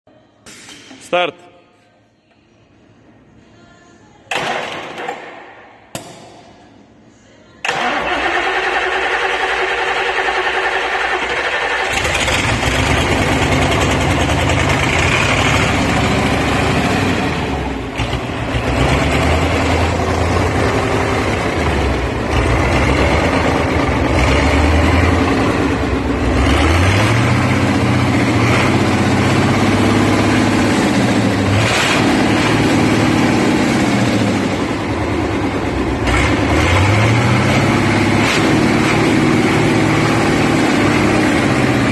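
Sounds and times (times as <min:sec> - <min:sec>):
diesel engine starting and revving: 0:07.6 - 0:41.9.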